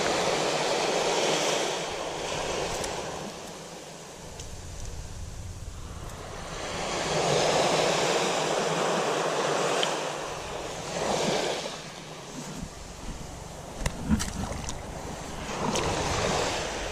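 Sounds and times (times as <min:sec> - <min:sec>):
small waves washing on sand: 0:00.0 - 0:16.9.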